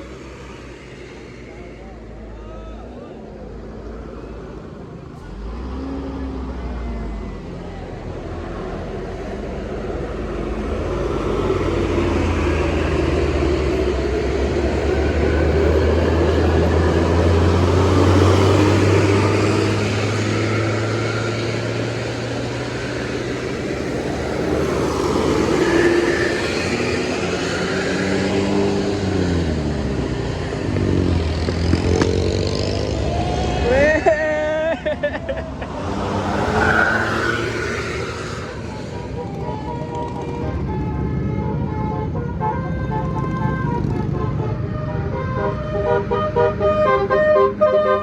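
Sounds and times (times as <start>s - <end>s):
diesel bus engine drone: 0.0s - 48.0s
tyre and road noise: 0.0s - 48.0s
vehicles passing: 0.0s - 48.0s.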